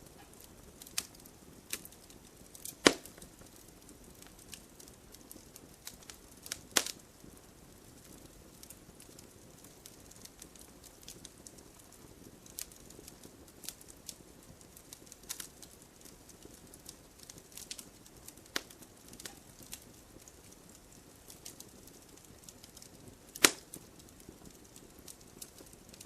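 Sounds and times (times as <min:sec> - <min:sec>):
low steady hiss: 0:00.0 - 0:26.0
wood fire crackling and popping: 0:00.0 - 0:26.0.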